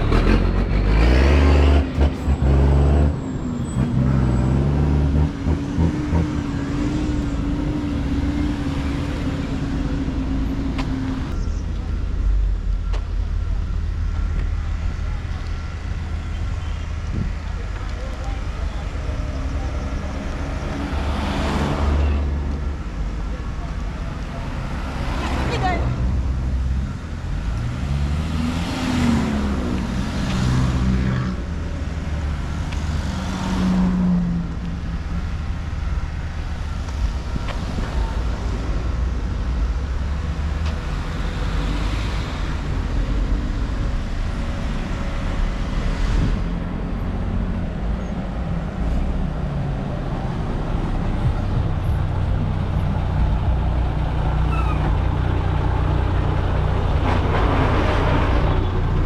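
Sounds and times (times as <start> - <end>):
low traffic rumble: 0.0 - 59.0
vehicle engines passing: 0.0 - 59.0.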